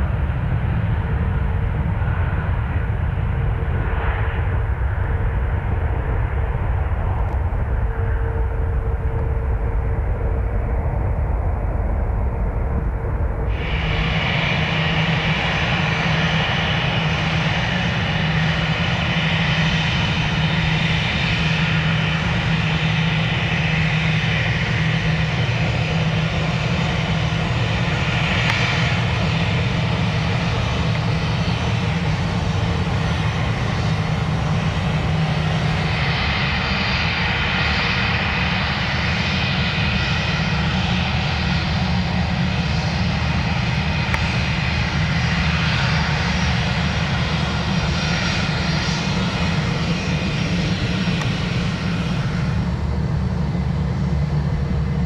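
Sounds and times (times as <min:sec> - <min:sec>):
airliner engines whining: 0:00.0 - 0:55.0.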